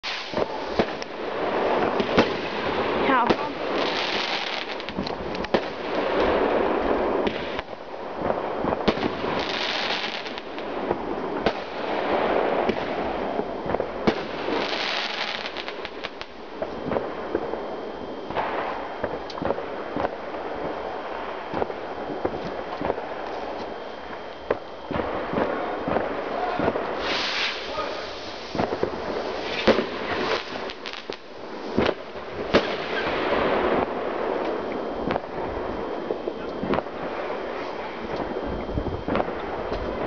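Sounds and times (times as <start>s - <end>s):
fireworks bangs and pops: 0.0s - 40.0s.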